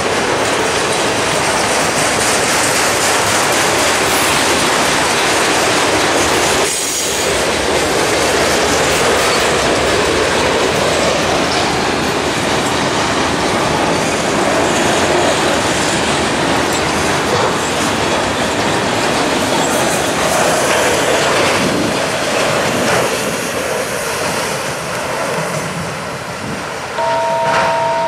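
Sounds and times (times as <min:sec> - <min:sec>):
freight cars rolling on rails: 0:00.0 - 0:28.0.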